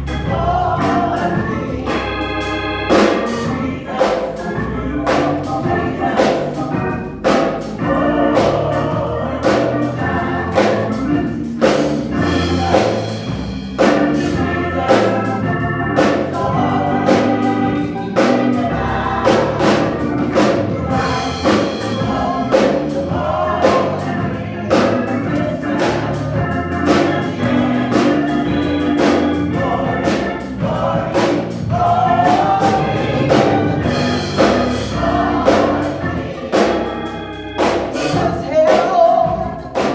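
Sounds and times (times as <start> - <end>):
gospel choir singing: 0.0 - 39.9
organ: 0.0 - 39.9
steady beat: 0.0 - 39.9.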